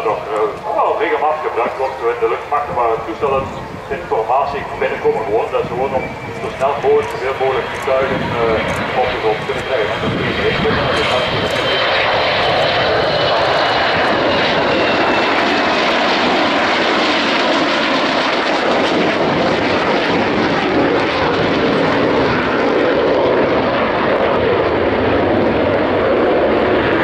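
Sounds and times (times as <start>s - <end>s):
high jet whine: 0.0s - 27.0s
jets roaring past: 0.0s - 27.0s.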